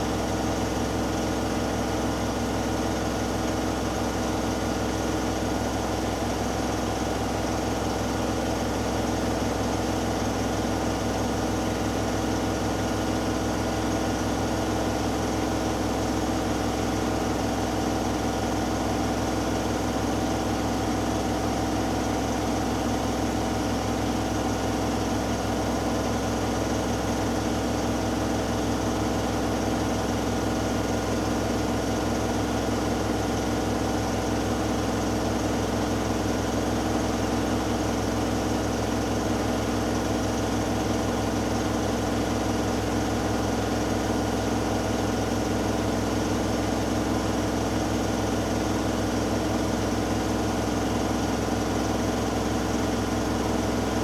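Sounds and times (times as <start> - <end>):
washing machine spinning: 0.1 - 54.0.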